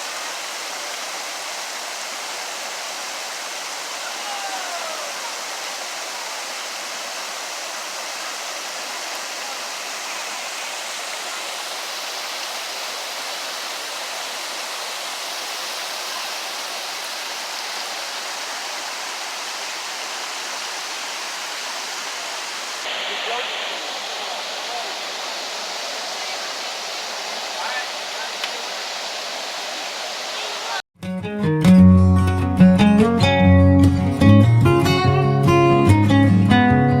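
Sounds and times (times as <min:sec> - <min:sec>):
rushing water of creek: 0:00.0 - 0:30.8.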